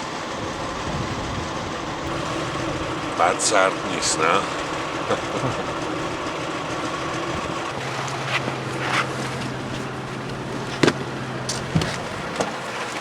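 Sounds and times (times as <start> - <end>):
rushing noise: 0.0 - 11.8
car engine hum: 0.0 - 13.0.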